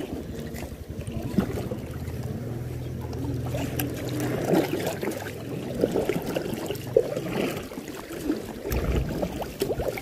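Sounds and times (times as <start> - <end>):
seawater splashing and gurgling: 0.0 - 10.0.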